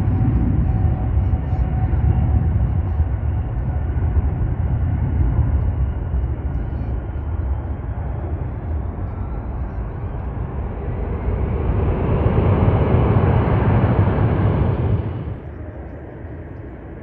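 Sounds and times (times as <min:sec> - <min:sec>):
jet airliner engine roar: 0:00.0 - 0:17.0.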